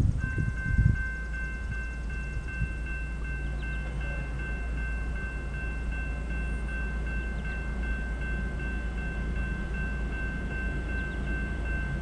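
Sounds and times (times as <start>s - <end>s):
railroad crossing bell ringing: 0.0s - 12.0s.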